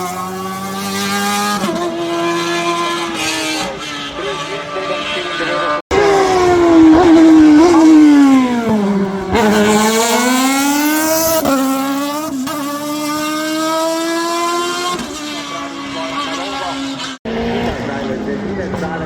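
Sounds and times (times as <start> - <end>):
race car engine at high revs: 0.0 - 19.0.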